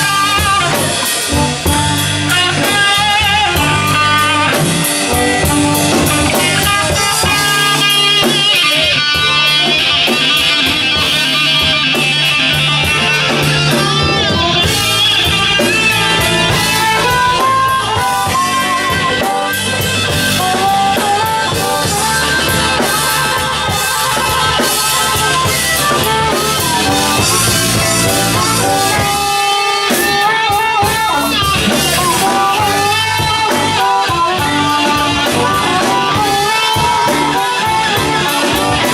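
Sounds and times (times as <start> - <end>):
electric guitar bending notes: 0.0 - 38.9
live blues band playing: 0.0 - 38.9.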